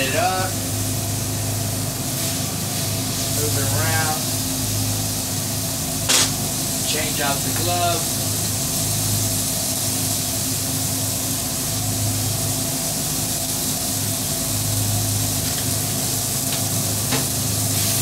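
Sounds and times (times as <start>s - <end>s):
chicken sizzling on a griddle: 0.0s - 18.0s
low hum of machinery: 0.0s - 18.0s.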